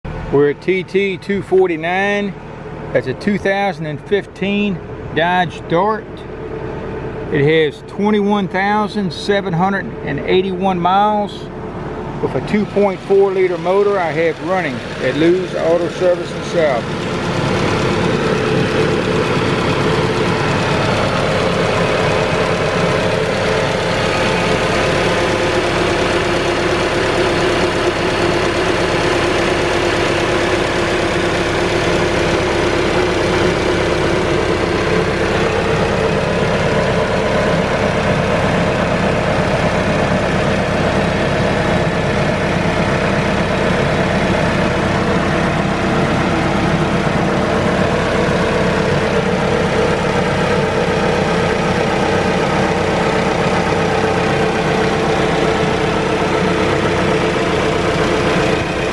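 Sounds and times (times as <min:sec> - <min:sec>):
car engine running: 0:00.0 - 0:58.9.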